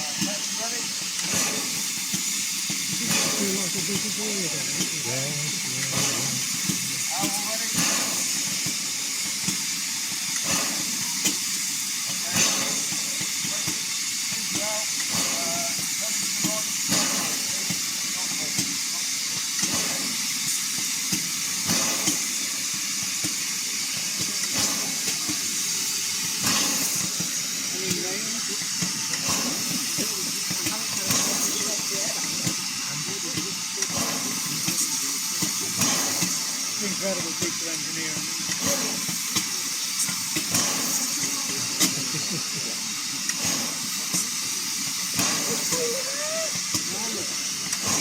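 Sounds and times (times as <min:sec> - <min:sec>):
steam locomotive hissing steam: 0:00.0 - 0:48.0.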